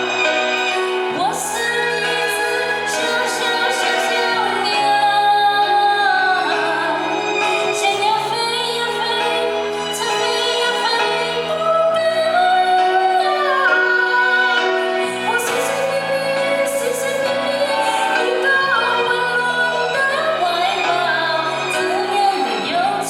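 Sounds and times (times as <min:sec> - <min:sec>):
instrumental accompaniment: 0:00.0 - 0:23.0
woman singing slow song: 0:01.0 - 0:23.0.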